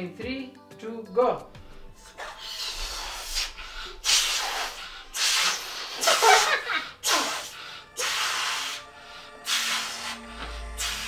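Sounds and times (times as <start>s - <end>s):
person blowing into balloon: 2.1s - 11.0s.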